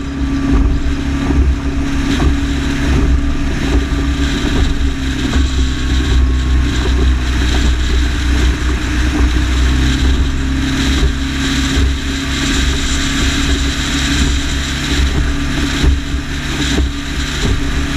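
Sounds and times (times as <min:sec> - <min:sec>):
motorboat engine running: 0:00.0 - 0:17.9
wind rumbling on microphone: 0:00.0 - 0:17.9.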